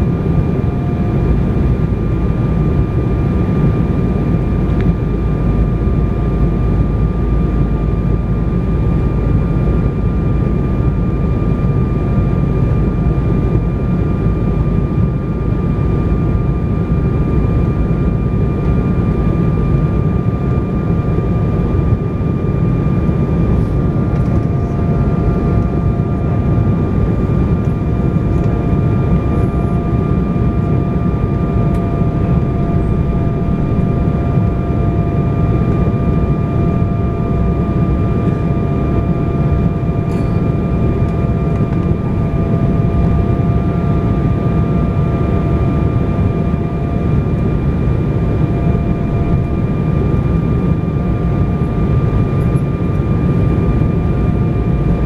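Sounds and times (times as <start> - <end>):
airliner cabin engine rumble: 0.0 - 55.0
faint steady whine: 0.0 - 55.0.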